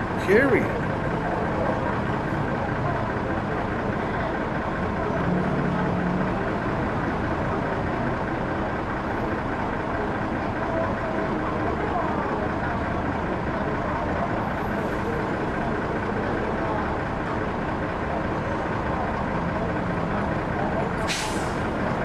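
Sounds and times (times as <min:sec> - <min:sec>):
bus diesel engine idling: 0:00.0 - 0:22.0.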